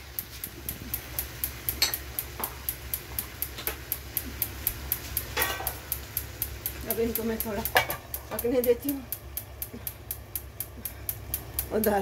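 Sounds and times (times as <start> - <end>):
high ticking: 0.0 - 12.0
low steady hum: 0.0 - 12.0.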